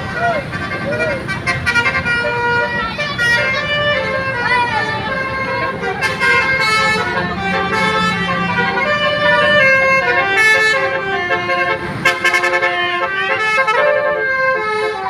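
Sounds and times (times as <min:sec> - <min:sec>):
bus multi-tone horn melody: 0:00.0 - 0:15.0.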